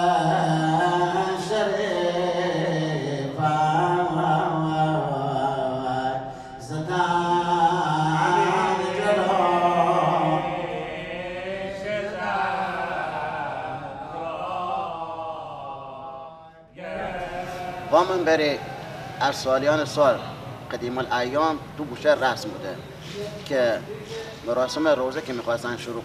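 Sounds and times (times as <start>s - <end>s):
man chanting a lament: 0.0s - 26.0s.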